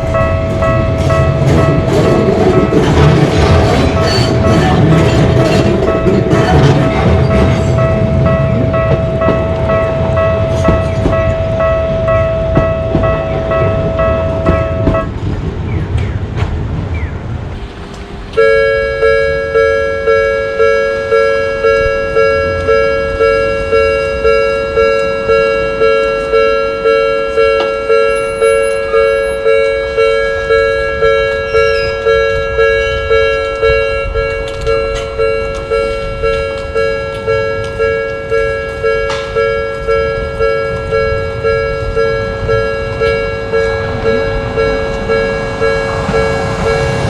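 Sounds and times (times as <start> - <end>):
railroad crossing warning bell: 0.0 - 15.4, 17.5 - 47.0
passing train rumble: 0.0 - 47.0.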